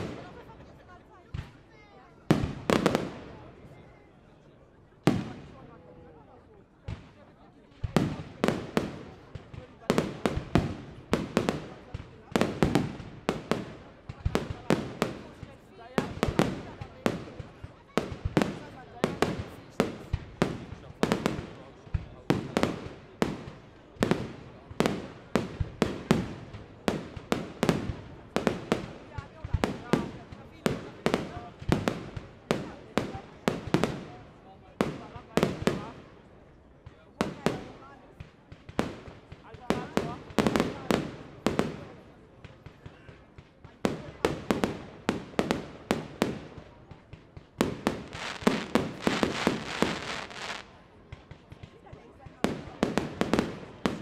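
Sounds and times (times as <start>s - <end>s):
fireworks bursting with echo: 0.0s - 3.8s, 5.0s - 54.0s
continuous crackling hiss: 6.4s - 54.0s.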